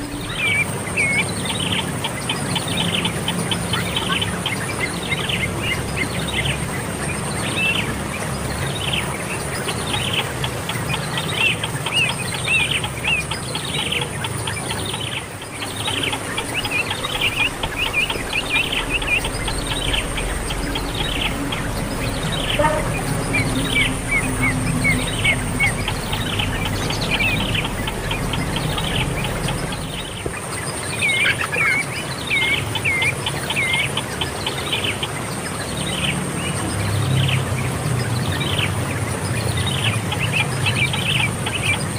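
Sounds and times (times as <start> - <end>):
small bird chirping: 0.0 - 35.3
steady high-pitched buzz: 0.0 - 35.7.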